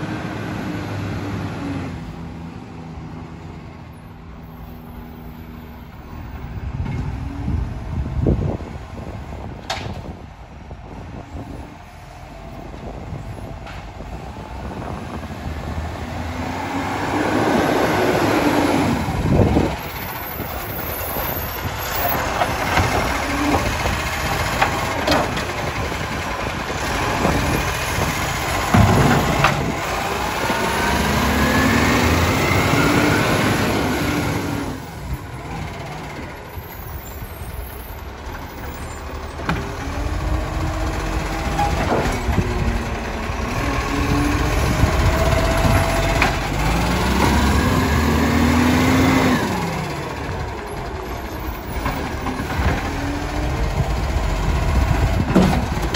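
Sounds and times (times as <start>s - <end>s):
diesel truck engine revving: 10.8s - 55.9s.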